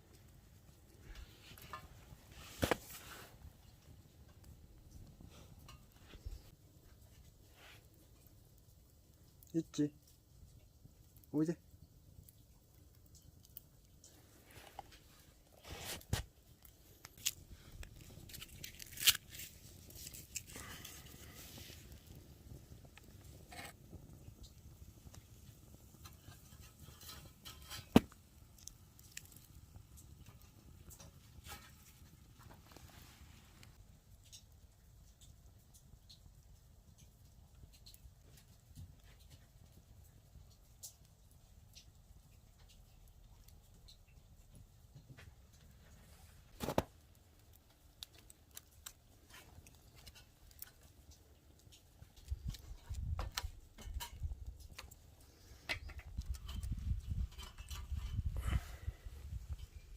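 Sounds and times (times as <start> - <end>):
fire popping: 0.0 - 59.9
twig fire crackling: 0.0 - 59.9.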